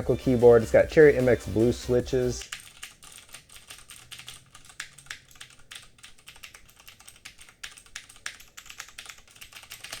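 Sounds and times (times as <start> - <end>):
clicky mechanical keyboard typing: 1.2 - 10.0.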